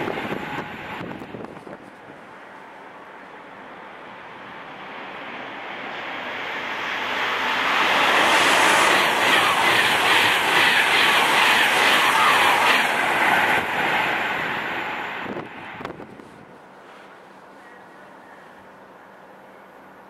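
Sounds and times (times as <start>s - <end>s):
train wheels rushing on rail: 0.0s - 17.7s.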